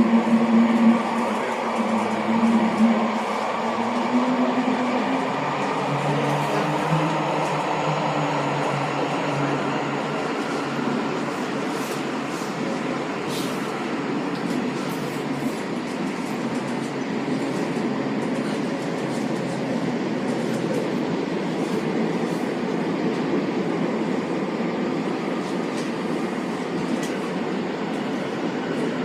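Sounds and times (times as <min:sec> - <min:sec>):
subway train rumbling in tunnel: 0:00.0 - 0:29.0.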